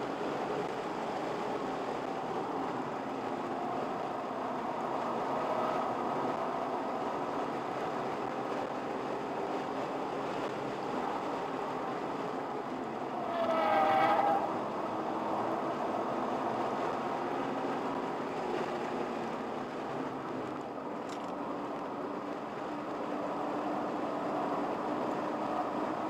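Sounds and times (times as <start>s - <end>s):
car interior driving noise: 0.0s - 26.0s.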